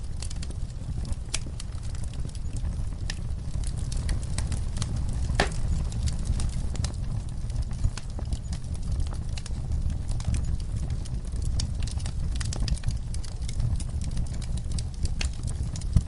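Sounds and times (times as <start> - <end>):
low rumble of flames: 0.0 - 16.0
sharp pops of fire: 0.0 - 16.0
wood fire crackling: 0.0 - 16.0.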